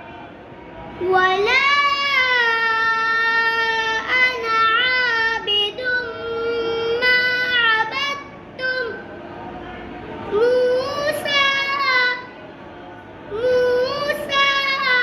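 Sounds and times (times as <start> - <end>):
child chanting recitation: 0.8 - 9.2, 10.2 - 12.6, 13.2 - 15.0.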